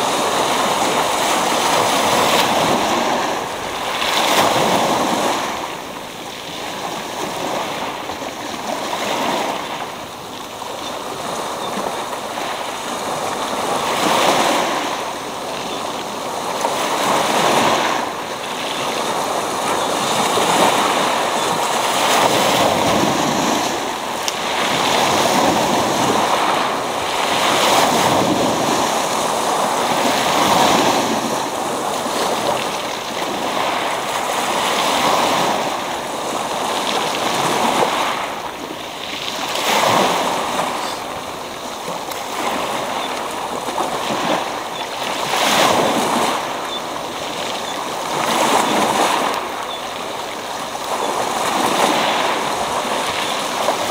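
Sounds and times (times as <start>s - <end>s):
waves breaking on pebbles: 0.0s - 53.9s.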